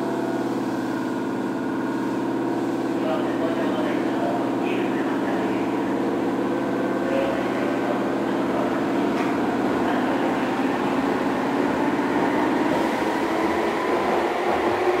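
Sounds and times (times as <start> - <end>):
electric train running: 2.9 - 15.0.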